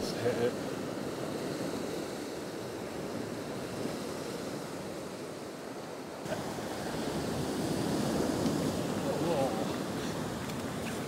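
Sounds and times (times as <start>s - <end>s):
surf washing onto shore: 0.0s - 11.0s.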